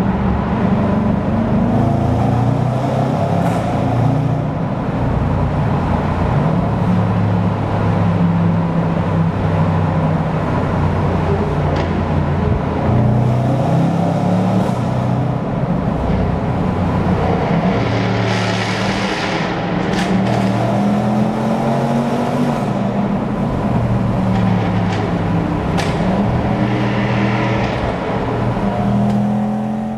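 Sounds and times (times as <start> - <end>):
sports car engines echoing: 0.0 - 29.9.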